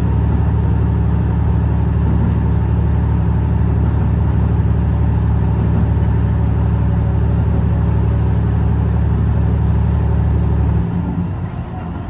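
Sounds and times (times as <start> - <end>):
diesel train running: 0.0 - 12.0.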